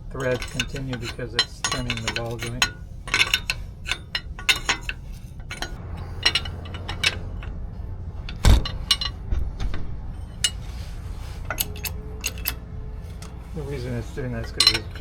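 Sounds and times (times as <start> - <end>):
metal hand tools clinking: 0.0 - 9.2, 10.3 - 15.0.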